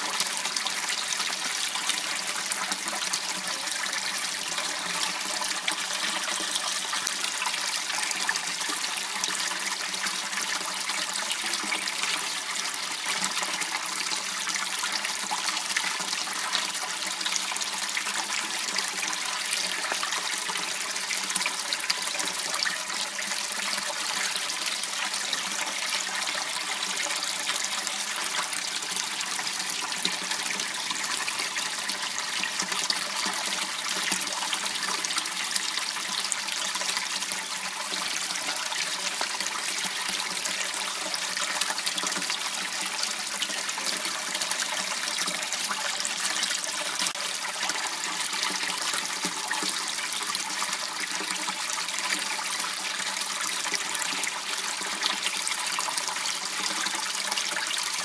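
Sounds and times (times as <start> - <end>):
water trickling in a canal: 0.0 - 58.0.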